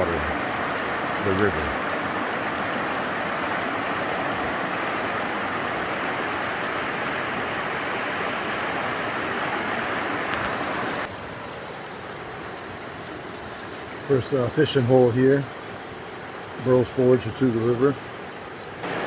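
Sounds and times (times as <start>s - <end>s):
river rushing over rocks: 0.0s - 17.3s, 18.0s - 19.0s.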